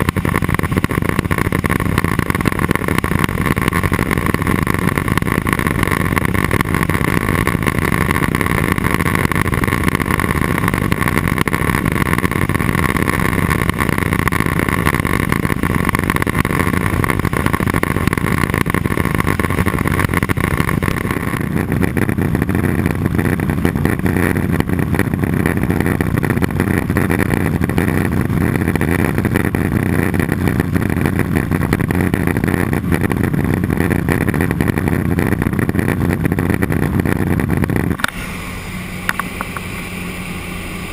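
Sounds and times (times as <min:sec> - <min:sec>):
high engine whine: 0:00.0 - 0:40.9
turboprop engine drone: 0:00.0 - 0:40.9.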